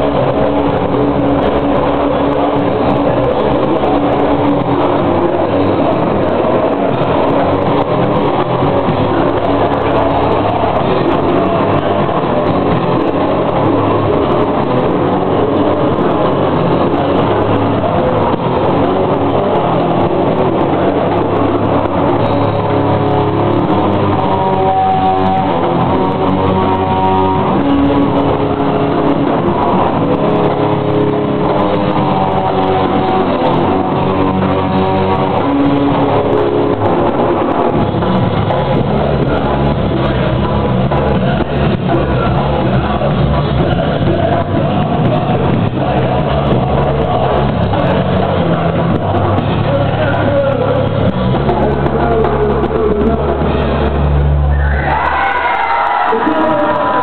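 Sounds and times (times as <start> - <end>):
held guitar notes: 0.0 - 57.0.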